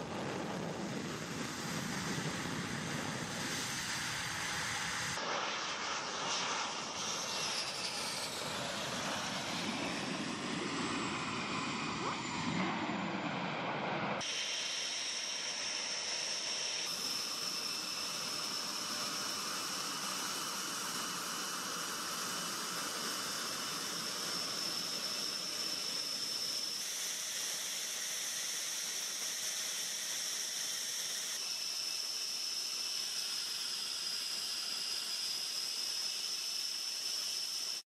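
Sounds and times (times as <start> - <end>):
jet turbine whine: 0.0 - 37.9.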